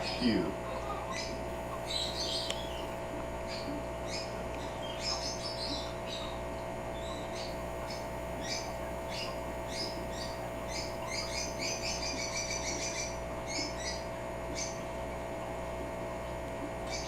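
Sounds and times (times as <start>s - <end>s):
parrot chirping: 0.0s - 14.9s.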